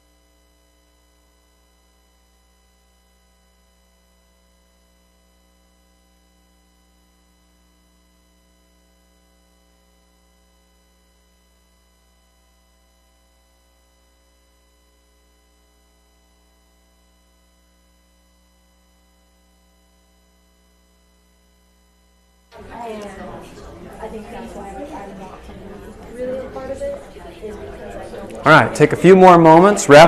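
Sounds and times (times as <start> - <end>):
faint hum and hiss: 0.0 - 30.0.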